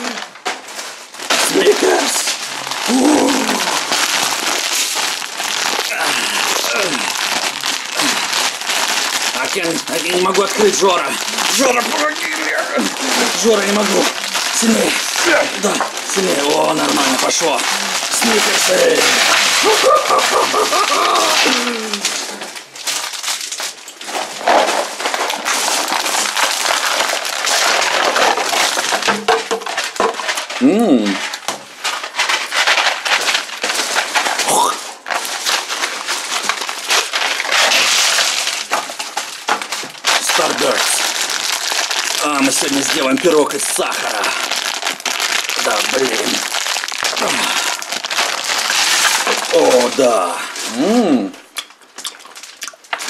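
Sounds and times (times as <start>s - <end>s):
plastic wrapper crinkling: 0.0s - 53.0s.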